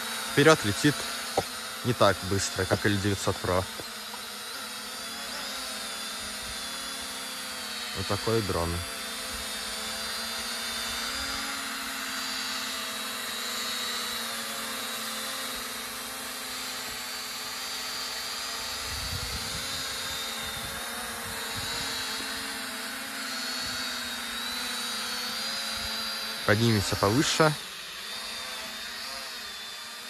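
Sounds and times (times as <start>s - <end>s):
drone propellers whining: 0.0s - 30.0s.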